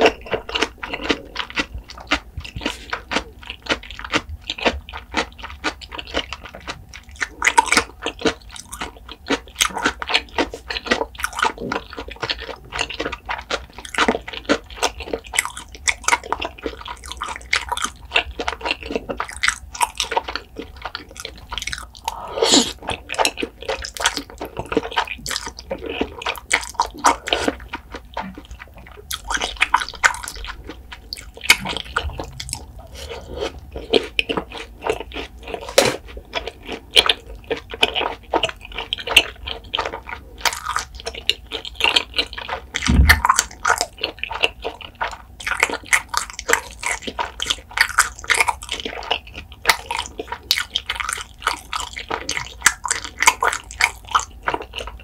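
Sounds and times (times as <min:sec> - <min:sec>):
mouth chewing smacks: 0:00.0 - 0:55.0.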